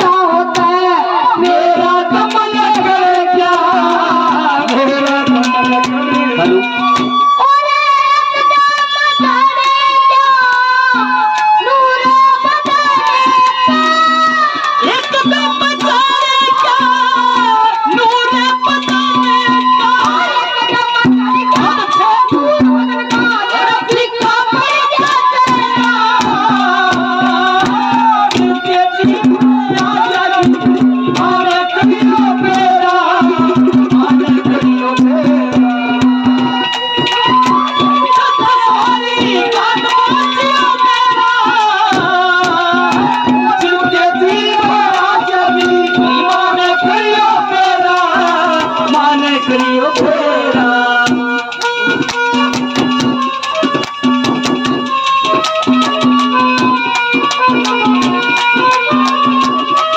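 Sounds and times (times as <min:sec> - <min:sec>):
hand drum rhythm: 0:00.0 - 0:07.6, 0:08.4 - 0:59.9
harmonium melody: 0:00.0 - 0:59.9.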